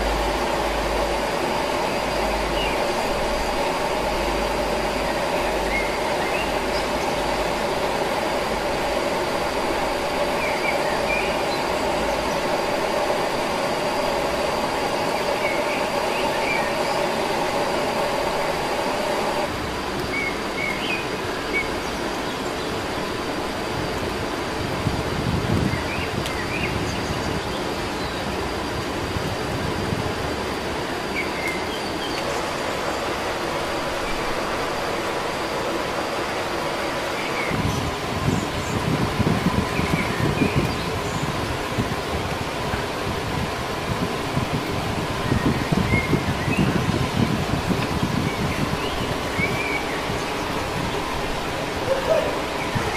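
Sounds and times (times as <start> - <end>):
steady rushing noise: 0.0 - 52.9.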